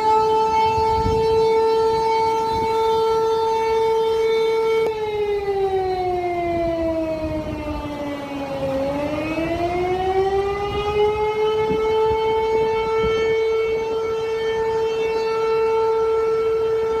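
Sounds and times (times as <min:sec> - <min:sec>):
motor-driven siren wailing: 0:00.0 - 0:17.0.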